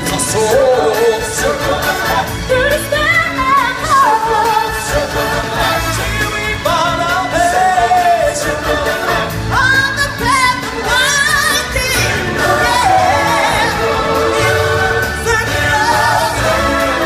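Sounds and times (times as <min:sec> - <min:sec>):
singers with choir and band: 0:00.0 - 0:17.0.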